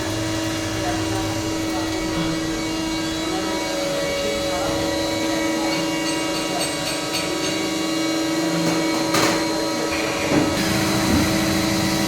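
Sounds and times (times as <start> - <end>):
machine whine over hum: 0.0 - 6.6, 7.4 - 12.0.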